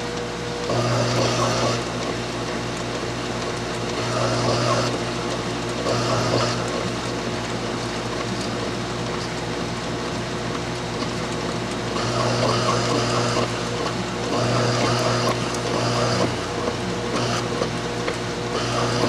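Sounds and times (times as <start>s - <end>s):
lathe motor hum: 0.0s - 19.0s.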